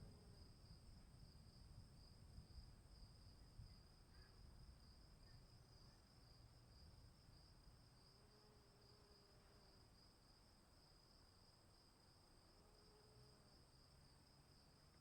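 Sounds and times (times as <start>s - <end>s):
faint crickets chirping: 0.0s - 15.0s.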